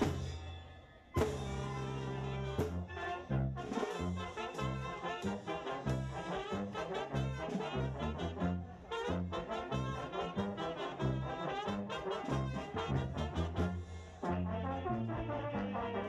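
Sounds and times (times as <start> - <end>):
brass band playing dance tune: 0.0 - 0.4, 1.0 - 16.0.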